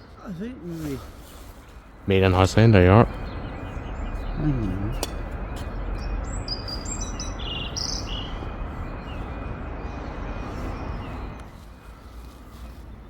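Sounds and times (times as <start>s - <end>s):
background rumble: 0.0s - 13.0s
bird chirping: 0.0s - 13.0s.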